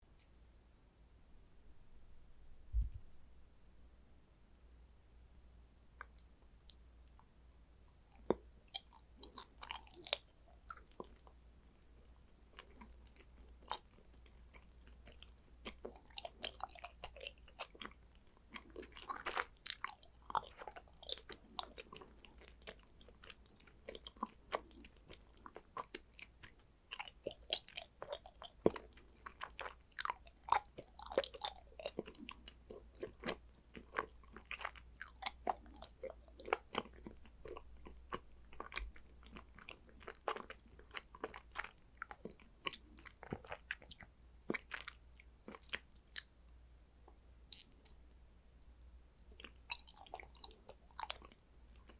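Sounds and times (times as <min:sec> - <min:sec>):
chocolate being bitten and chewed: 0:08.1 - 0:46.4, 0:47.1 - 0:48.0, 0:49.1 - 0:51.9.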